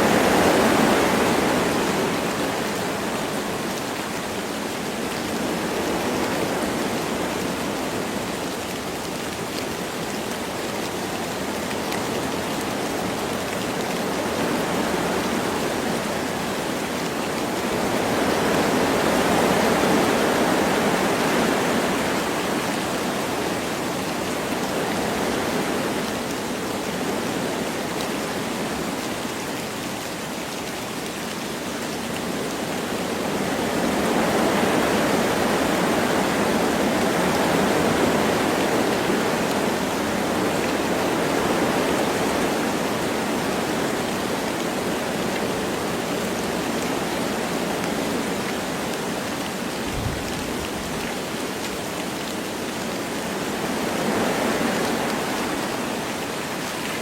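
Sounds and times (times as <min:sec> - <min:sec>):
light rain: 0:00.0 - 0:57.0
wind through trees: 0:00.0 - 0:57.0.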